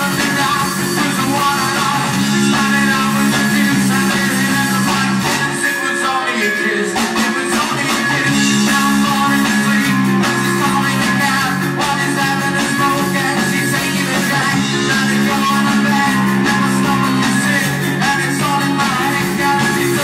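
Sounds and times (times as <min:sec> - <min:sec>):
bass guitar: 0:00.0 - 0:20.0
drums: 0:00.0 - 0:20.0
electric guitars: 0:00.0 - 0:20.0
lead vocal singing: 0:00.0 - 0:20.0.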